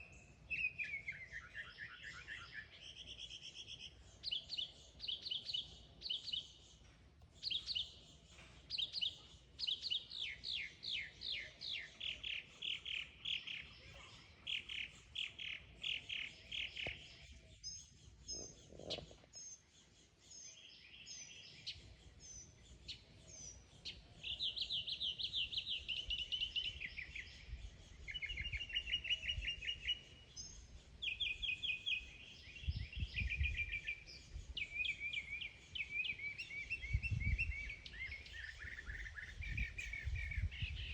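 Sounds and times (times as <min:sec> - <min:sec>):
mockingbird singing: 0:00.0 - 0:06.8, 0:07.4 - 0:40.9.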